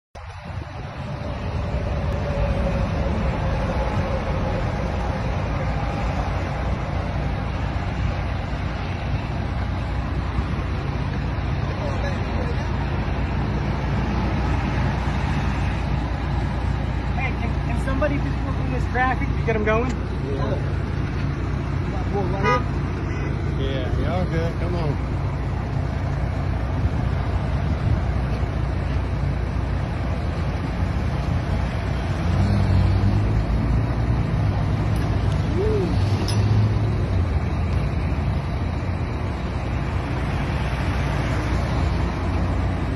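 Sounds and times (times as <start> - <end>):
highway traffic rumble: 0.1 - 42.9
vehicle engines idling: 0.2 - 42.9.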